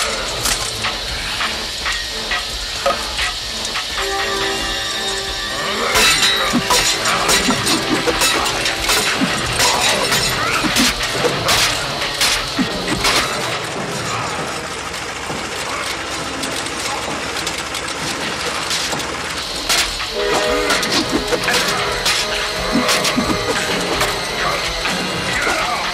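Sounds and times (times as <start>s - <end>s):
mechanical clatter: 0.0s - 25.9s
sharp crashes and clanks: 0.0s - 25.9s.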